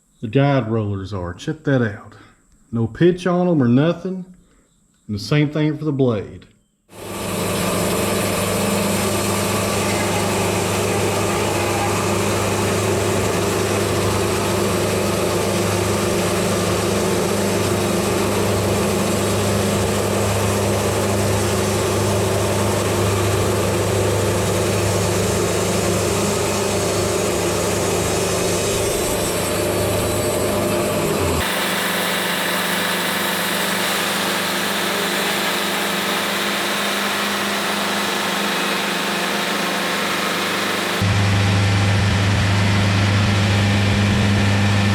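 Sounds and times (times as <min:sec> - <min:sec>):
diesel engine humming: 0:07.0 - 0:44.9.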